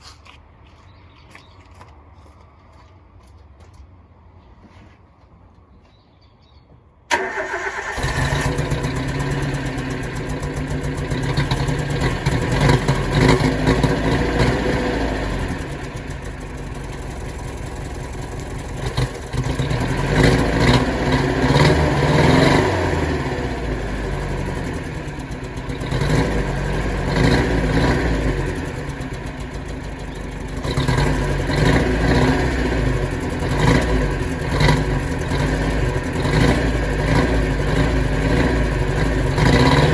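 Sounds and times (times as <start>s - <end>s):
car engine starting and revving: 7.1s - 39.9s.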